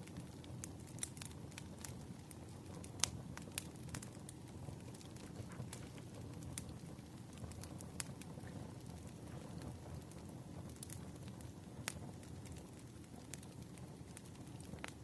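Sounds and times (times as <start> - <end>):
burning logs crackling and popping: 0.0 - 15.0
wood fire rumbling: 0.0 - 15.0.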